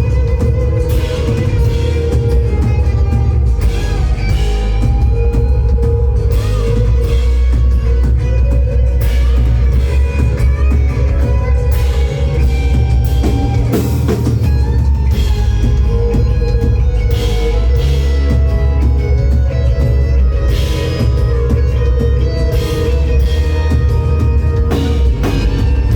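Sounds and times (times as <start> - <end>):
bass guitar: 0.0 - 25.9
drum kit with cymbal crashes: 0.0 - 25.9
electric guitar bending notes: 0.0 - 25.9.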